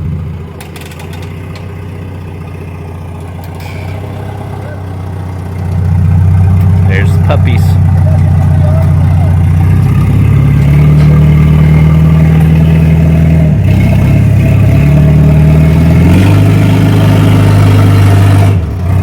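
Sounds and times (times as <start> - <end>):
forklift engine running hard: 0.0 - 19.0.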